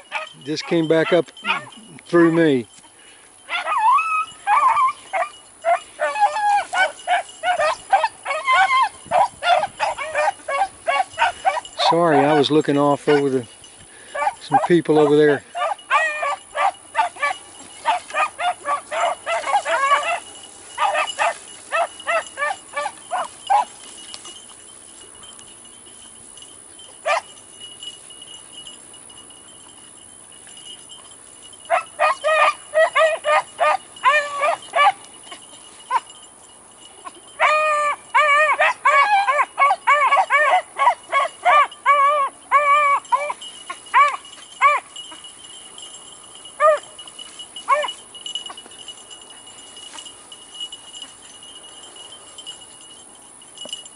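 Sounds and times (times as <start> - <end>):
beagles baying: 0.0 - 53.9.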